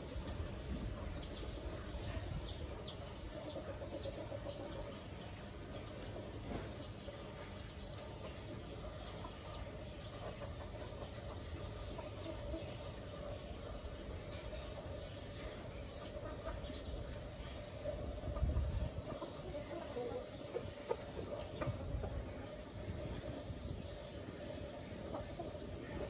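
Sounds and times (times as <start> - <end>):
chickens clucking softly: 0.0 - 26.0
chicks peeping: 0.0 - 26.0.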